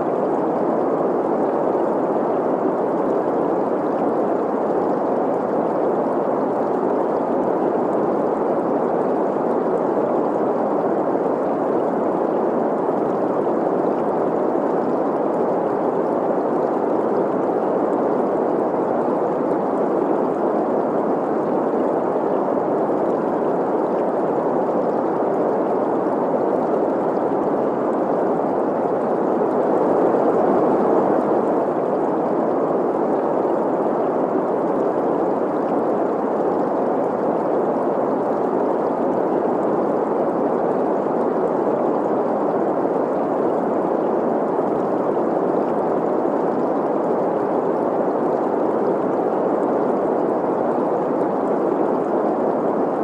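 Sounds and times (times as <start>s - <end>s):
flowing stream: 0.0s - 53.0s
steady green noise hiss: 0.0s - 53.0s.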